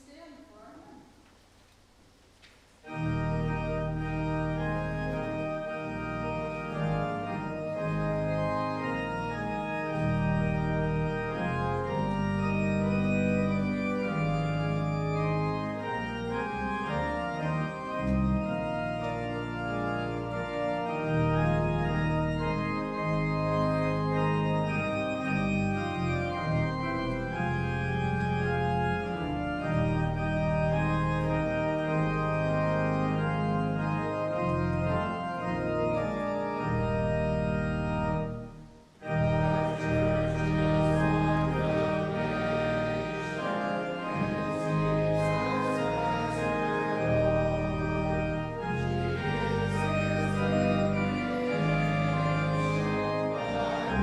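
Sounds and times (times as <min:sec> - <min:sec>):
church organ chords: 0:02.8 - 0:54.0.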